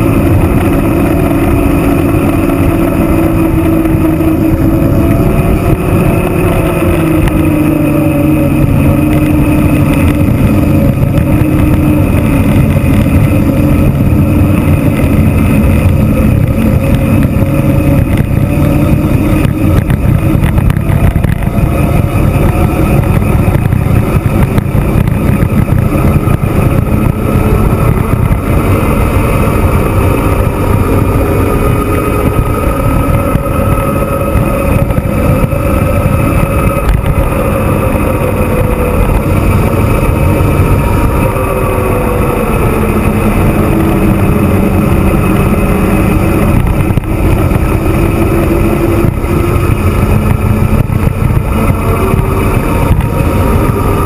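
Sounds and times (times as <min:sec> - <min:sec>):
wavering hum: 0:00.0 - 0:54.0
wind on microphone: 0:00.0 - 0:54.0.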